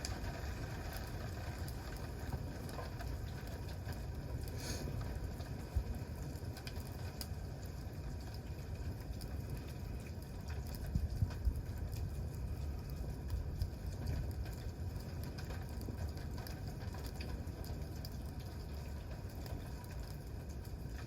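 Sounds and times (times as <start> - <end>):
campfire crackles and pops: 0.0 - 21.0
fire low rumble: 0.0 - 21.0.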